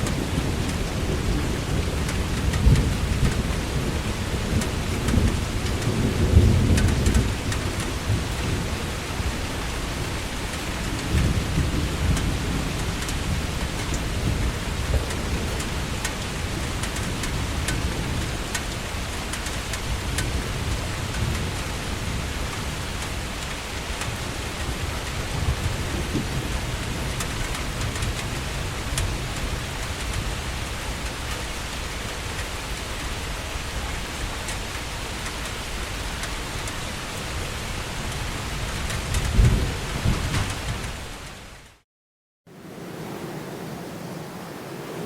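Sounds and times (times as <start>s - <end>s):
heavy rain falling: 0.0s - 41.8s, 42.5s - 45.0s.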